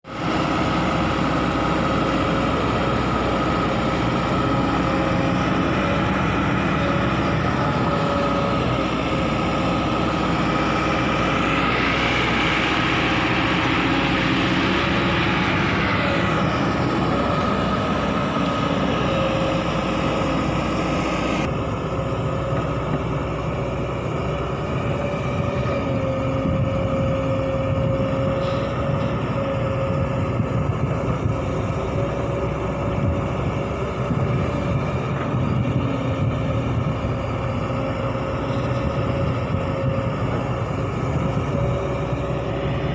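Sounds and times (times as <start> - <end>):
construction machinery engines running: 0.0 - 42.9.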